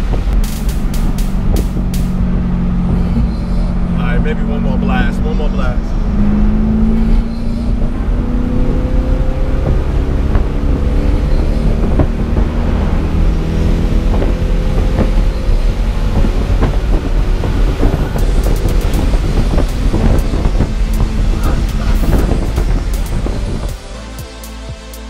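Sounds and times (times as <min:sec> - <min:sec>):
car engine running: 0:00.0 - 0:25.0
road and wind noise: 0:00.0 - 0:25.0.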